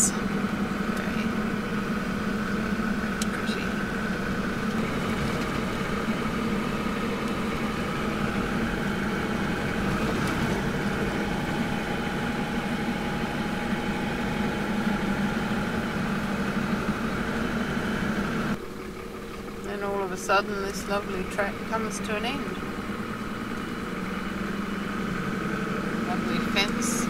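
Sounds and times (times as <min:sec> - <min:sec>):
engine and tyre noise in cabin: 0:00.0 - 0:27.0.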